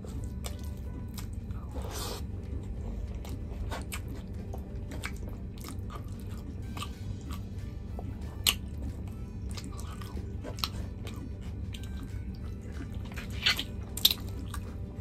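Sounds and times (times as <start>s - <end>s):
person chewing: 0.0s - 15.0s
steady low hum: 0.0s - 15.0s.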